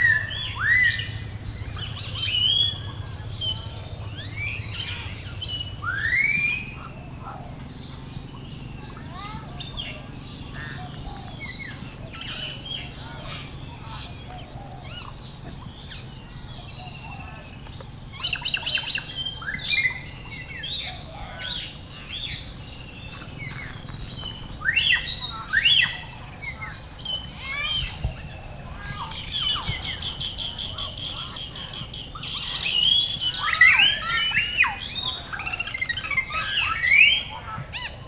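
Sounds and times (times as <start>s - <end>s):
bird trill: 0.0s - 38.0s
birds chirping: 0.0s - 38.0s.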